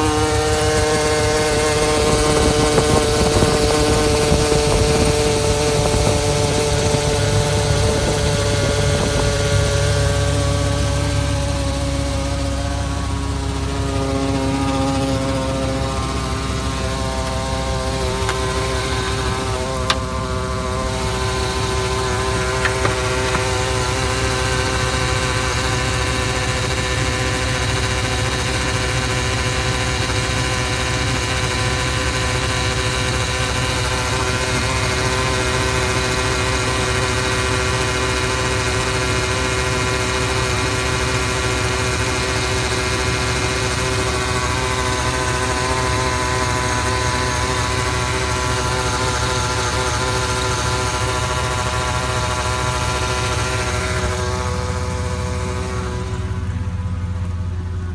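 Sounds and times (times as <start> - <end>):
truck engine idling: 0.0 - 57.9.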